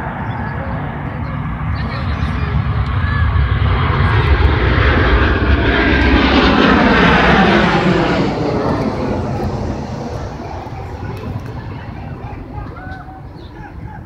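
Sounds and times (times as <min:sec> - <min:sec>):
aircraft engine rushing overhead: 0:00.0 - 0:14.0.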